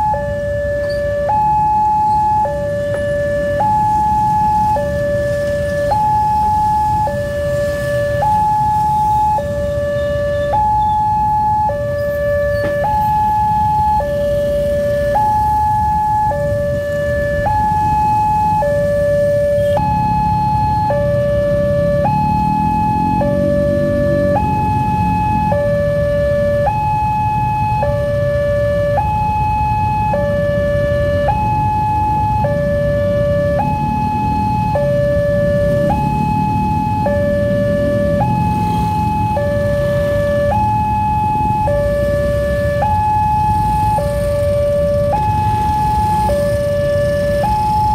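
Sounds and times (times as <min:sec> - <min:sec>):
level crossing two-tone alarm: 0:00.0 - 0:47.9
traffic rumble: 0:00.0 - 0:47.9.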